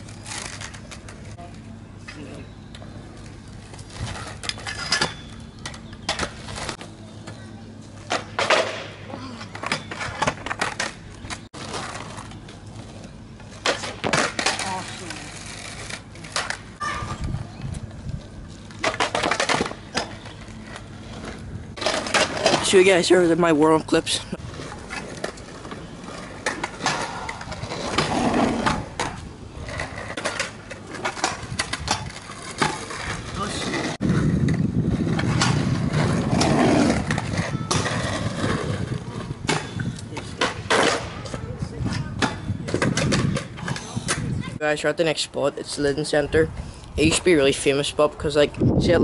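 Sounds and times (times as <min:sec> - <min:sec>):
scooter wheels rolling on asphalt: 0:00.0 - 0:49.0.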